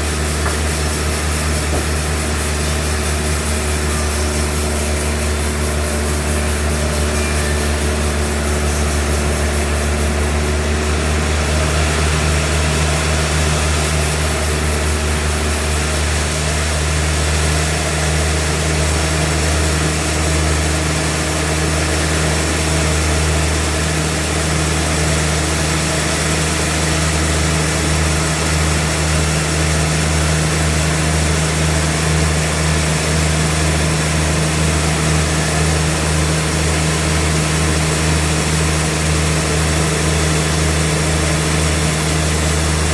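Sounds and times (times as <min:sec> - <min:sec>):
sawmill engine droning: 0:00.0 - 0:42.9.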